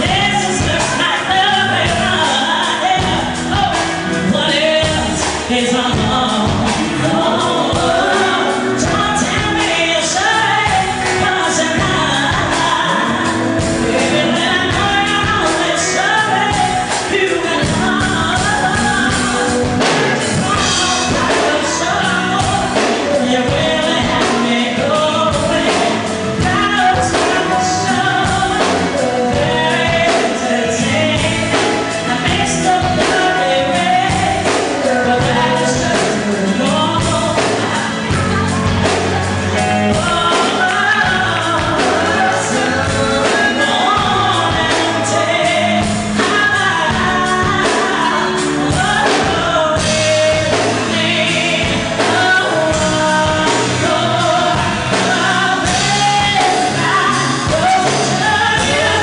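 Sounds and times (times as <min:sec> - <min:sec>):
electric guitars: 0:00.0 - 0:59.0
keyboards: 0:00.0 - 0:59.0
woman singing into microphone: 0:00.0 - 0:59.0.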